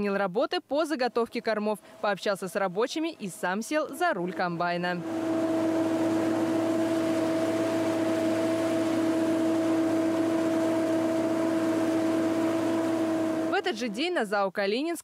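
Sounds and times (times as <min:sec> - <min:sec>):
harvester mechanical hum: 0:02.0 - 0:14.1.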